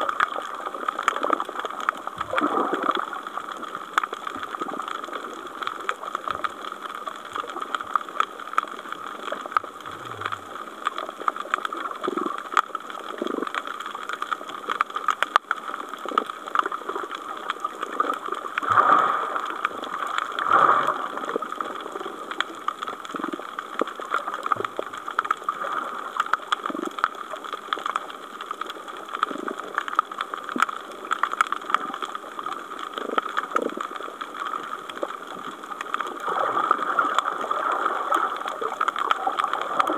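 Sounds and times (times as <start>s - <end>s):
underwater hiss with fine crackling: 0.0s - 39.9s
water gurgling: 0.0s - 39.9s.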